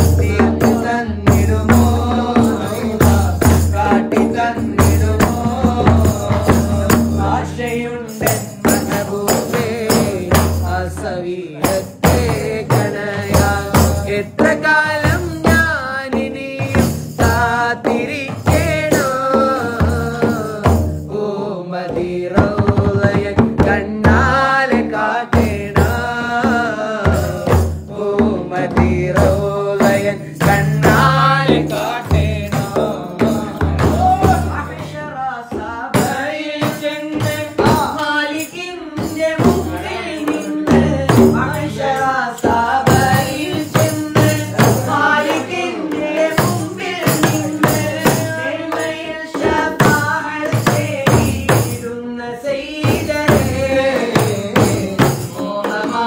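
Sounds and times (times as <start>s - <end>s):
frame drums beating: 0.0s - 56.0s
men singing: 0.0s - 56.0s.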